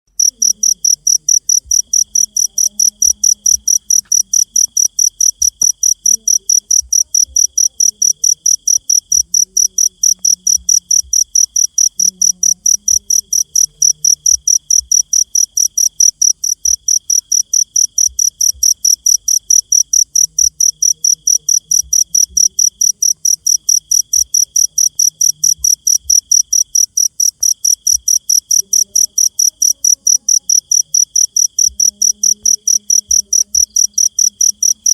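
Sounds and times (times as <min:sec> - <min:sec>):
cricket chirping: 0:00.1 - 0:34.9
faint insect trill: 0:00.2 - 0:34.9.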